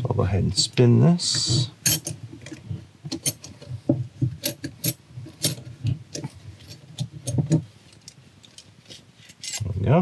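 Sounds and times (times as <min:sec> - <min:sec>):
metal clicks scrapes and knocks: 0:01.4 - 0:09.7.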